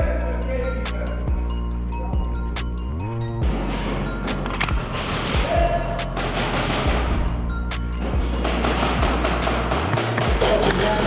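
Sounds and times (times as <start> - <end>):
bass line: 0.0 - 11.0.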